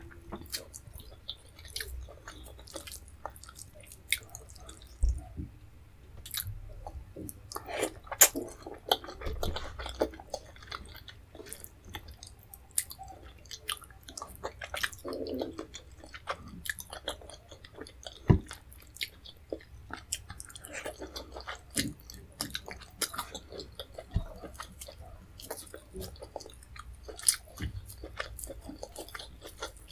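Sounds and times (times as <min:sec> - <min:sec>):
mouth chewing clicks and smacks: 0:00.1 - 0:05.3, 0:06.2 - 0:29.9.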